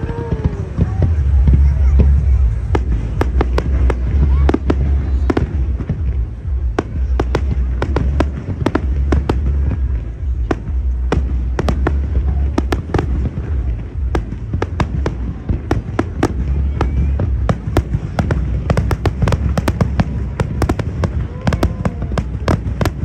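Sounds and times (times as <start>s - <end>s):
deep rumble of bursts: 0.0s - 23.0s
fireworks bangs and crackles: 0.0s - 23.0s.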